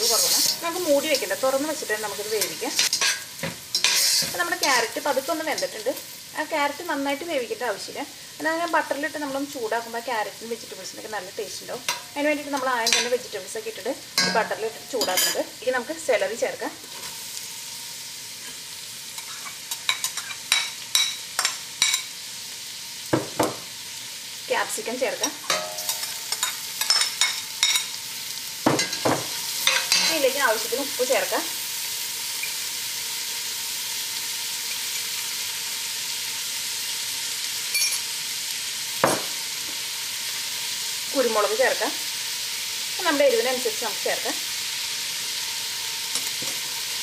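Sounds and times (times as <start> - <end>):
vegetables sizzling in butter: 0.0 - 47.0.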